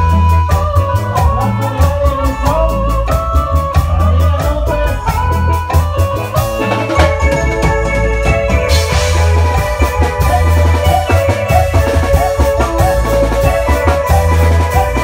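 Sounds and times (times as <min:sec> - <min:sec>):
drum beat: 0:00.0 - 0:15.0
electronic keyboard melody: 0:00.0 - 0:15.0
heavy bass line: 0:00.0 - 0:15.0.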